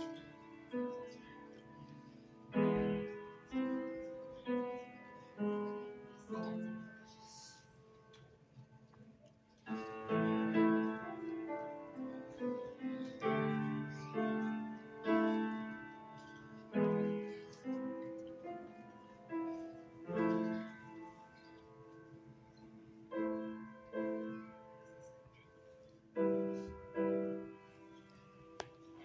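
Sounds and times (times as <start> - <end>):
solo piano piece: 0.0 - 8.6, 9.7 - 29.0.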